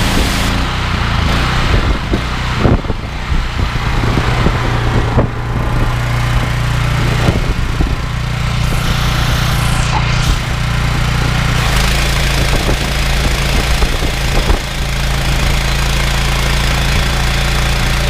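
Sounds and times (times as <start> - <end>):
petrol engine running: 0.0 - 18.0.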